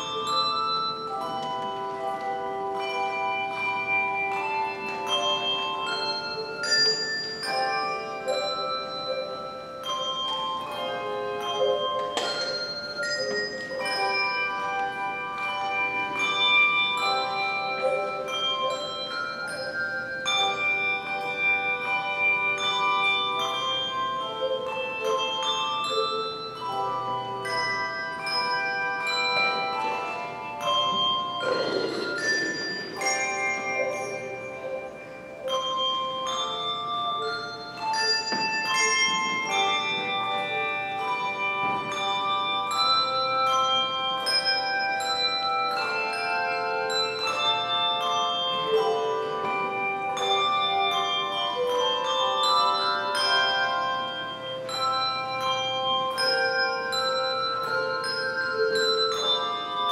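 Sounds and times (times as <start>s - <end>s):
handbells ringing in chords: 0.0s - 59.9s.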